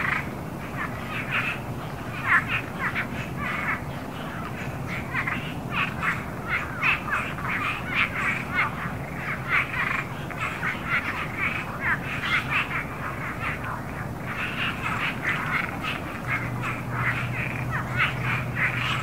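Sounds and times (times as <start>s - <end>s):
frogs calling: 0.0s - 19.0s
low background noise: 0.0s - 19.0s.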